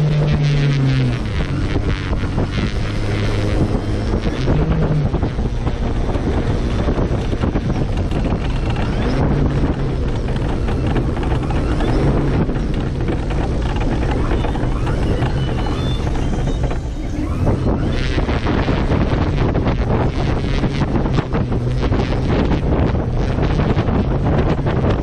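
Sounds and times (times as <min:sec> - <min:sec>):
electric motor and propeller drone: 0:00.0 - 0:25.0
wind buffeting camera: 0:00.0 - 0:25.0.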